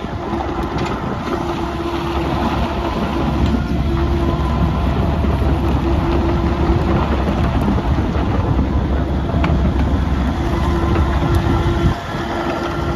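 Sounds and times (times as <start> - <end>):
excavator diesel engine rumbling: 0.0 - 12.9.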